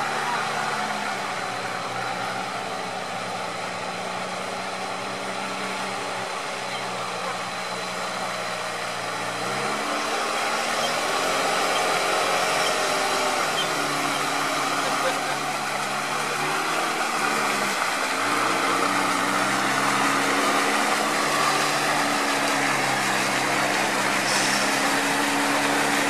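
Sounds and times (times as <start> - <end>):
off-road vehicle engine revving: 0.0 - 26.0
vehicle wading through mud: 0.0 - 26.0.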